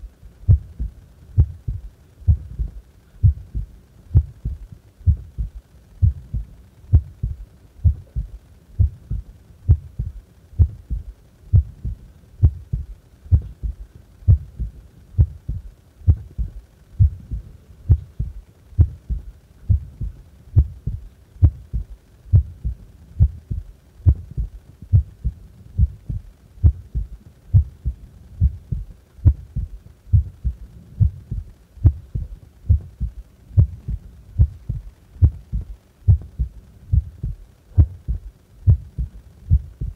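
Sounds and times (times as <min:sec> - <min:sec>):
heart beating: 0:00.5 - 0:39.9.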